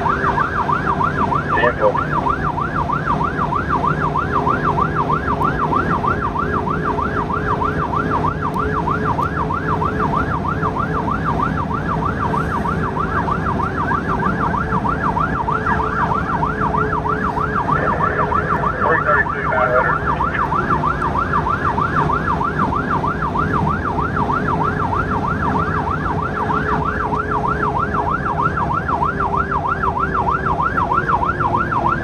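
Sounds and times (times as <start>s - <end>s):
siren yelping: 0.0s - 32.0s
vehicle engine and road noise: 0.0s - 32.0s.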